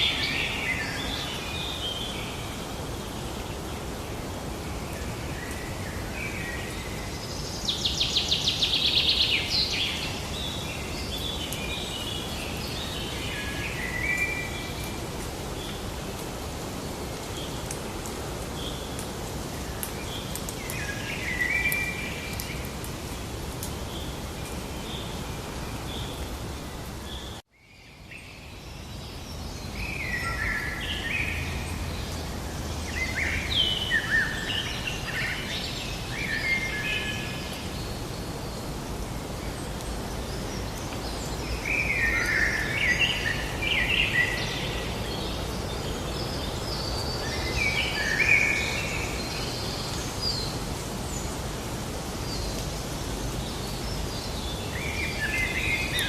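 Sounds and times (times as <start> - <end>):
birds singing and calling: 0.0 - 56.0
outdoor ambience hiss: 0.0 - 56.0.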